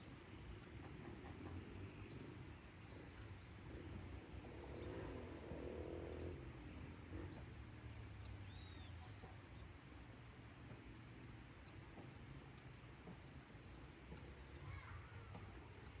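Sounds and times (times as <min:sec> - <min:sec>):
insect hiss: 0:00.0 - 0:16.0.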